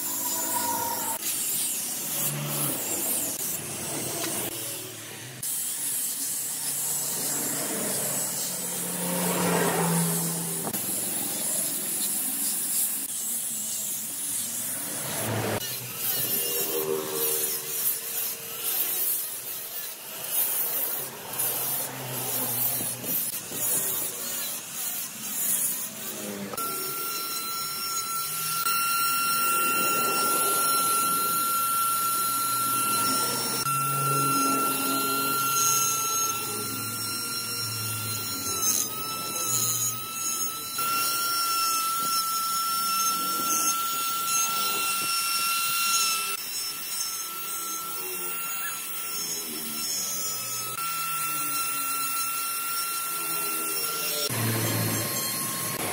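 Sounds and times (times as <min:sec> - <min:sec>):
angle grinder sanding wood: 0:00.0 - 0:55.9
die grinder high whine: 0:00.0 - 0:55.9.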